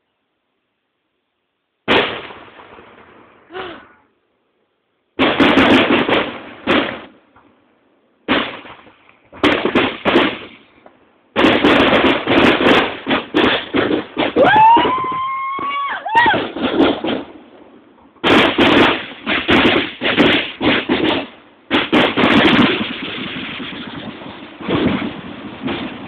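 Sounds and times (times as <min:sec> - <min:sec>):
fireworks crackling bangs: 0:01.8 - 0:03.8, 0:05.1 - 0:26.0.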